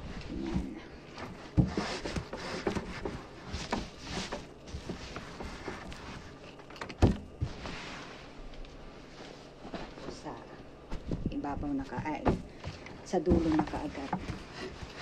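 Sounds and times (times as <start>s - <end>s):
fabric rustling: 0.0s - 15.0s.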